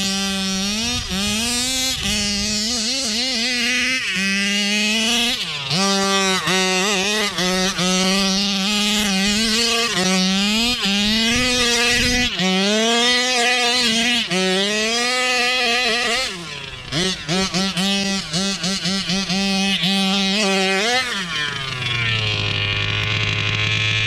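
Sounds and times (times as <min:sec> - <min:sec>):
two-stroke engine revving: 0:00.0 - 0:24.0.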